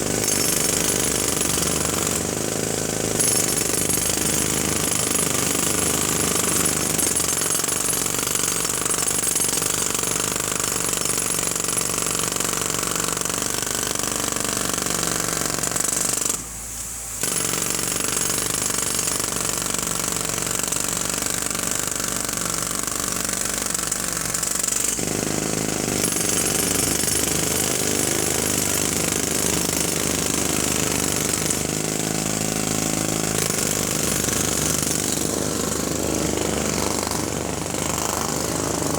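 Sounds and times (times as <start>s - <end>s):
jackhammer hammering: 0.0s - 16.4s, 17.2s - 38.9s.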